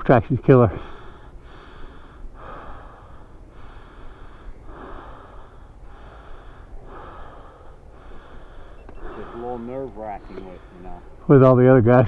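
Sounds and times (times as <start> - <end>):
person breathing heavily: 0.7 - 11.4.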